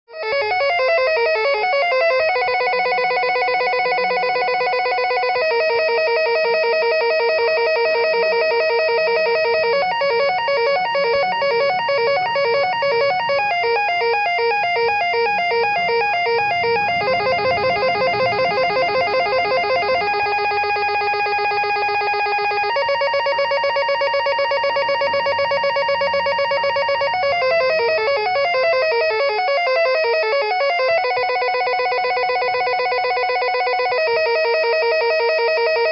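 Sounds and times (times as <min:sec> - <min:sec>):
electronic telephone ringtone: 0:00.1 - 0:35.9.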